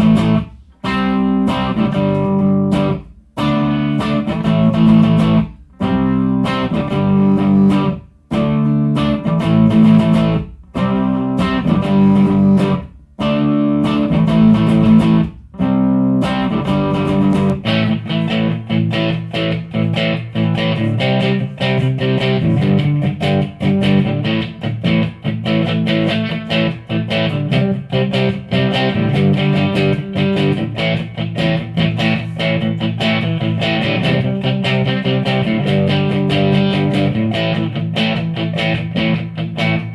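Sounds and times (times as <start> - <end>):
electric guitar: 0.0 - 39.9.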